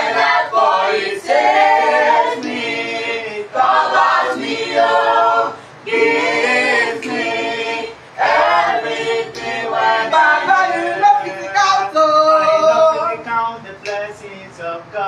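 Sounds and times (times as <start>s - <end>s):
group singing a cappella: 0.0s - 14.7s.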